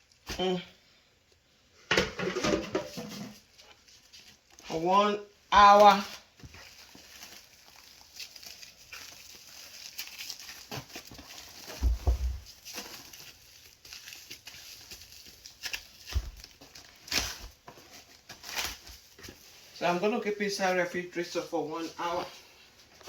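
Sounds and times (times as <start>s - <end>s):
cling wrap crinkling: 2.9s - 23.0s.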